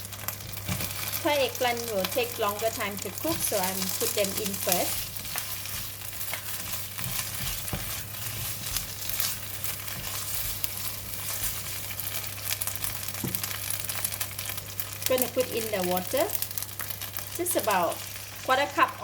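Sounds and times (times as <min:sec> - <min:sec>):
oil spattering crackles: 0:00.0 - 0:19.0
vegetables sizzling in oil: 0:00.0 - 0:19.0.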